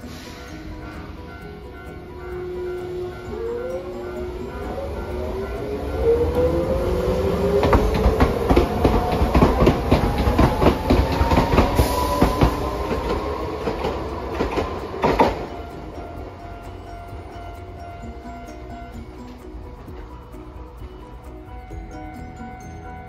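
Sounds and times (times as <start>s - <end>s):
wheels clacking over rail joints: 0.0s - 22.5s
tram motors whining: 0.0s - 23.0s.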